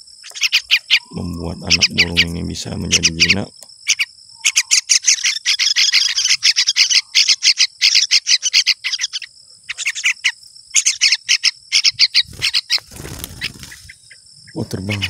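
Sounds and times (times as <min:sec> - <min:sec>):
fledglings begging chirps: 0:00.0 - 0:15.0.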